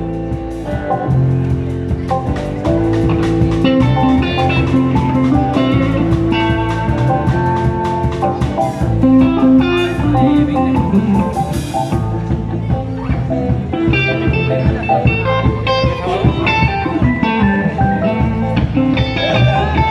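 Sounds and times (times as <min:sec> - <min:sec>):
live band playing: 0:00.0 - 0:19.9.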